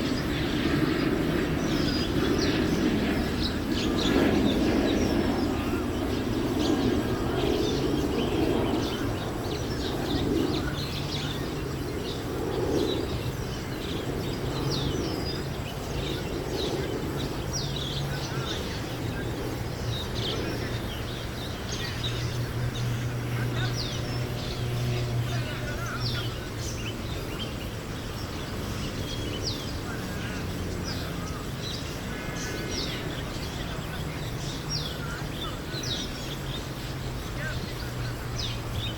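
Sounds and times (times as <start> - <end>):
many birds chirping: 0.0 - 38.9
steady low hum: 0.0 - 38.9.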